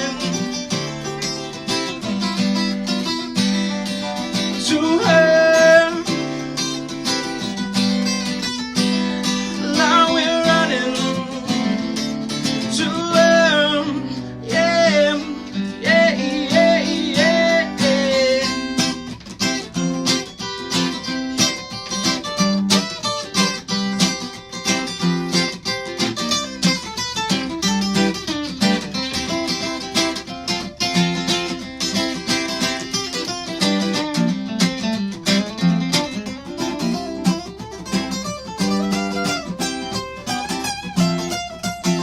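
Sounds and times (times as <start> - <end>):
acoustic guitar playing: 0.0 - 42.0.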